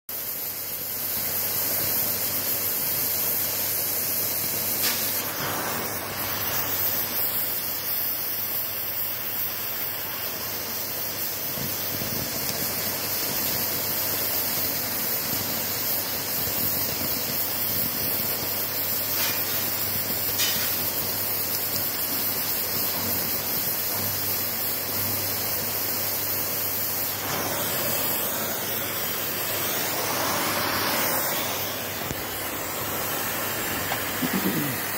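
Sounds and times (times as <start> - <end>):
cutting torch hissing: 0.0 - 34.9.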